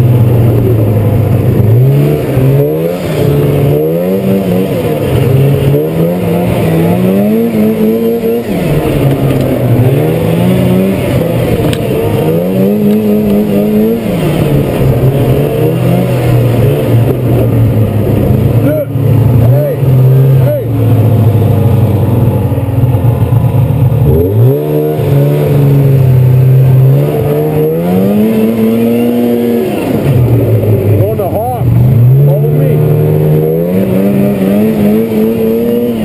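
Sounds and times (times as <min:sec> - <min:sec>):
snowmobile engine revving: 0:00.0 - 0:36.0.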